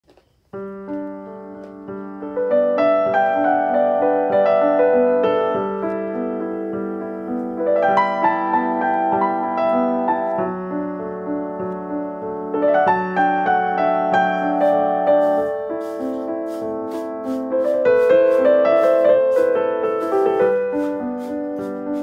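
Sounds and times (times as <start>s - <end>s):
slow piano melody: 0.1s - 22.0s.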